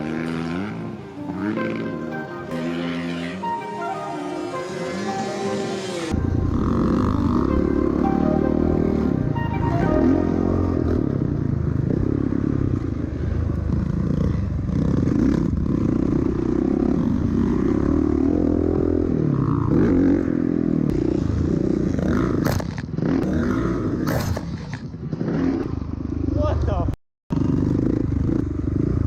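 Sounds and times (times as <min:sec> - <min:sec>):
dirt bike engine revving: 0:00.0 - 0:26.4.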